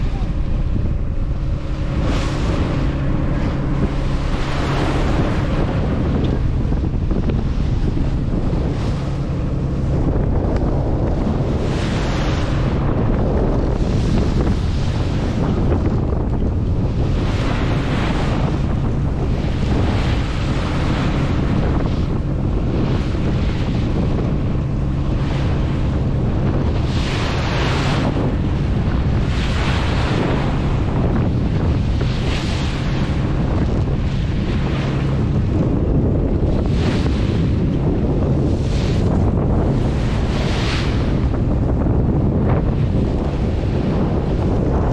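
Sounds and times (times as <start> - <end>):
low engine hum: 0.0 - 44.9
water rushing along hull: 0.0 - 44.9
wind buffeting microphone: 0.0 - 44.9.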